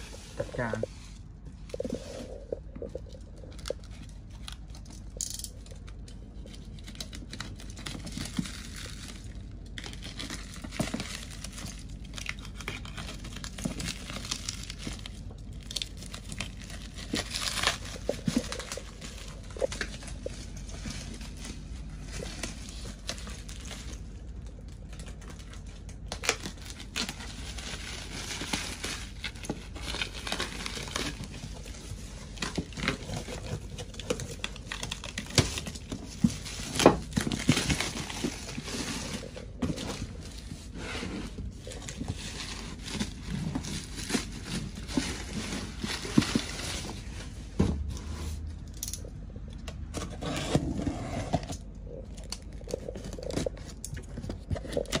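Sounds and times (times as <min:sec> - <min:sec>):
plastic wrapping crinkling and tearing: 0:01.5 - 0:47.6, 0:51.7 - 0:55.0.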